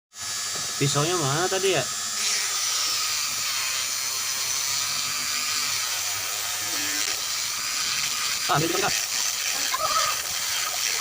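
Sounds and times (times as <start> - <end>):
small electric motor whining: 0.1 - 11.0.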